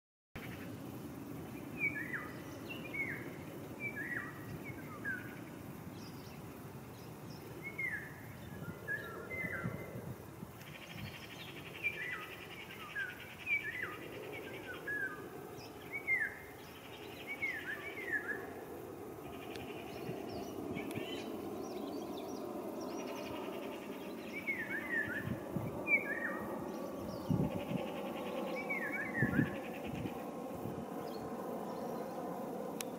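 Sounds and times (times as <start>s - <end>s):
songbird chirping: 0.4s - 10.0s, 10.6s - 32.9s.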